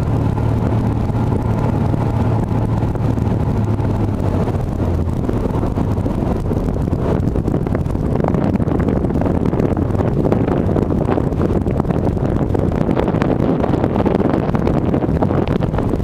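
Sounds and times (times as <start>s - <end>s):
ferry engine hum: 0.0s - 16.0s
wind gusting on microphone: 0.0s - 16.0s.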